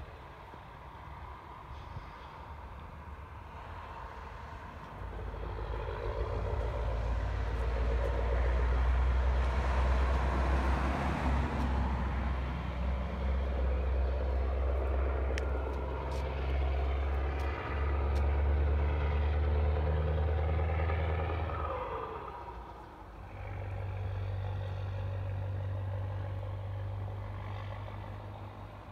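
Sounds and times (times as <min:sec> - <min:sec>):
truck engine through loud exhaust: 0:00.0 - 0:28.9.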